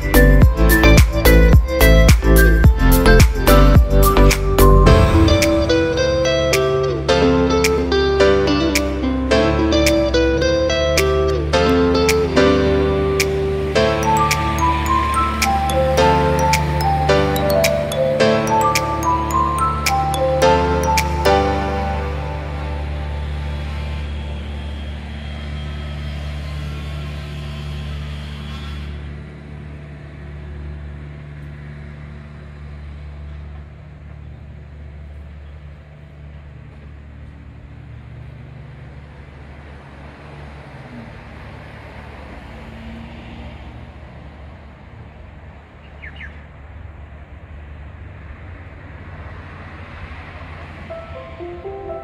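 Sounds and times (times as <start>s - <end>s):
traffic hum: 0.0s - 52.0s
vehicle engine rumble: 0.0s - 52.0s.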